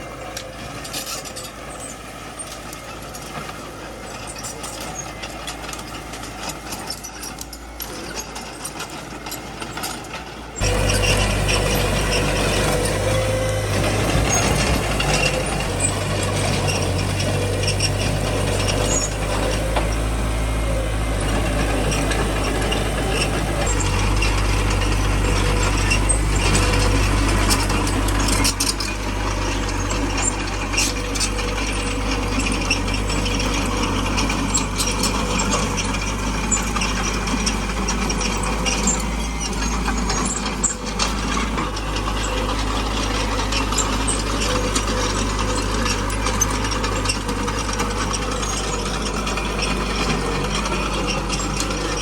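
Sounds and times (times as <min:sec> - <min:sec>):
diesel engine running: 0:00.0 - 0:52.0
tracks clanking and rattling: 0:00.0 - 0:52.0.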